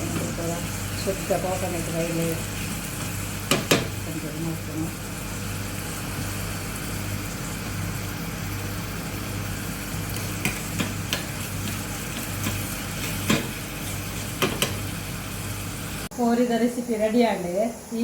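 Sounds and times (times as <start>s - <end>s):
chicken sizzling in oil: 0.0s - 16.1s.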